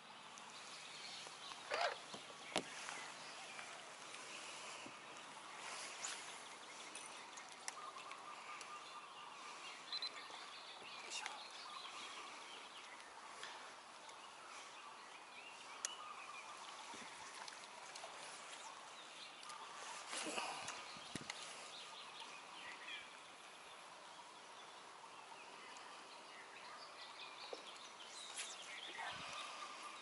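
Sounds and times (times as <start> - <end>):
faint bird calls: 0.4 - 30.0.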